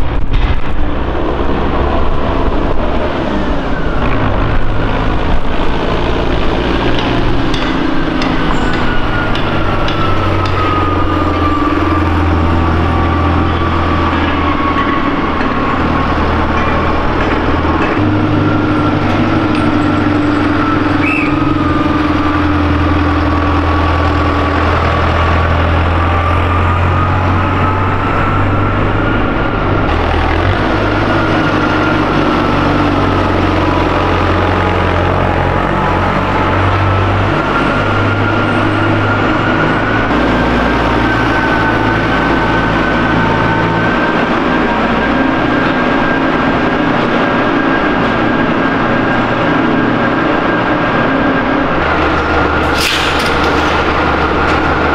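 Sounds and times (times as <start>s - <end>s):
tractor engine droning: 0.0s - 54.9s.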